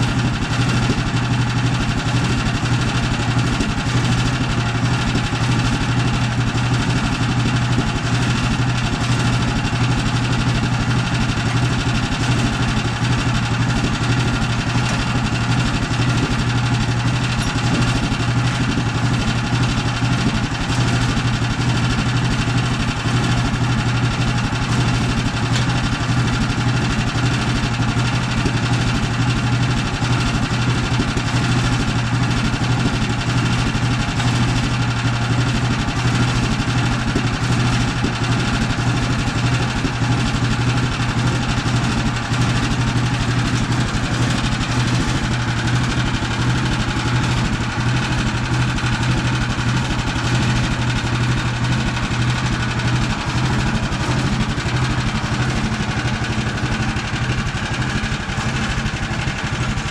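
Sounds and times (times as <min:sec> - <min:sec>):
sawmill gasoline engine running: 0:00.0 - 0:59.9.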